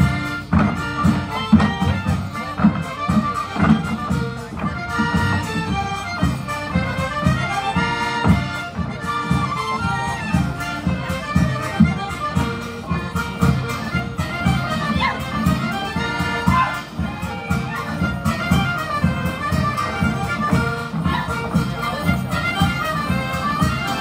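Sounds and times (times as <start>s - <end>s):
folk dance band with accordion: 0.0s - 24.0s.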